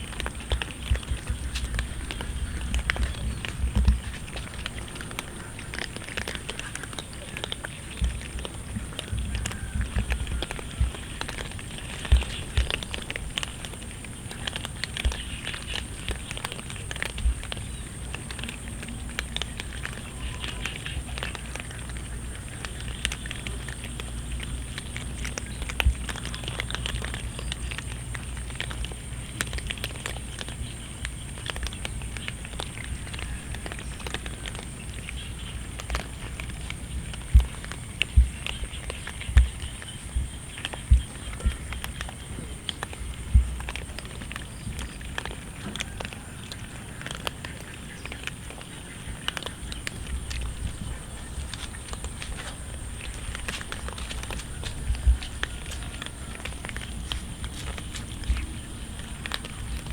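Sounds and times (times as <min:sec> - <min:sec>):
cats chewing and crunching: 0:00.0 - 0:59.9.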